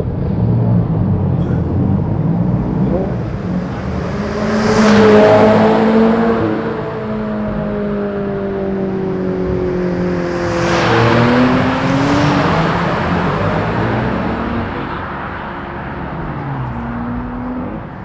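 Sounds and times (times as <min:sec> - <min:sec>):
car accelerating past: 0:00.2 - 0:18.0.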